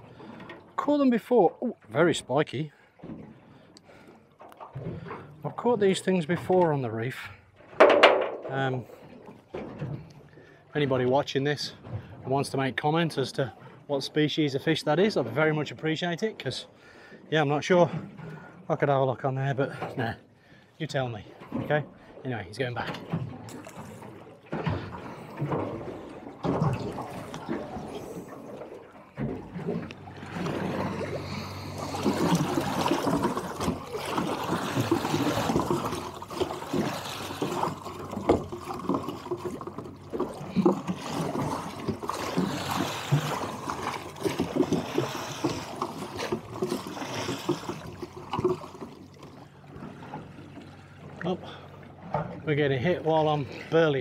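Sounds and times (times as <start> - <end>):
water splashing against boat hull: 0.0 - 54.0.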